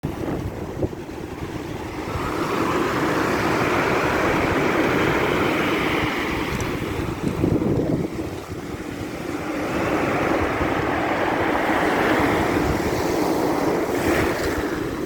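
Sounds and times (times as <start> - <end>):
wave breaking roar: 0.0 - 15.0.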